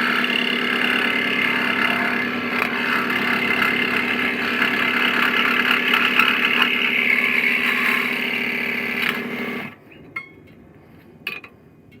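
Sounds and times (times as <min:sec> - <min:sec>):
scroll saw motor humming: 0:00.0 - 0:09.8.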